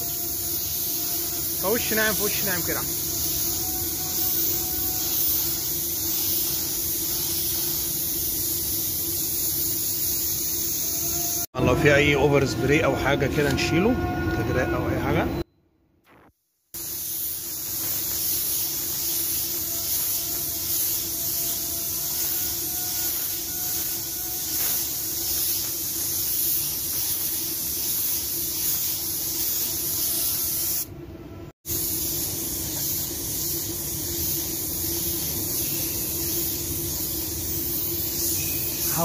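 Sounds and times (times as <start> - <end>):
spray gun hissing: 0.0 - 11.5, 16.8 - 30.9, 31.6 - 39.0.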